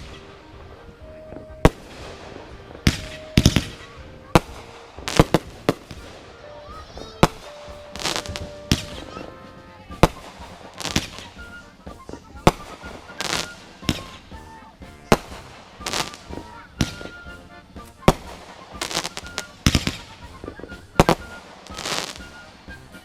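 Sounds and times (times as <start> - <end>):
fireworks banging: 0.0 - 23.0
fireworks crackling: 0.0 - 23.0.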